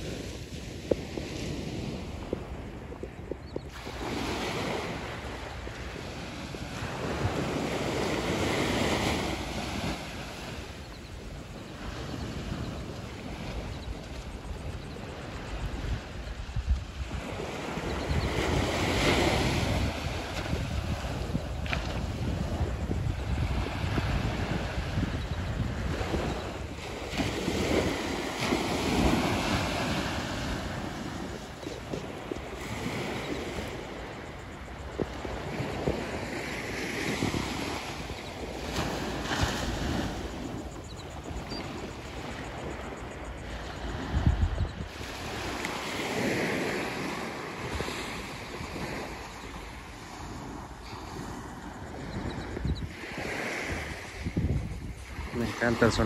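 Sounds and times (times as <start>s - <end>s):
small waves breaking on beach: 0.0s - 56.0s
wind rumbling on microphone: 0.0s - 56.0s.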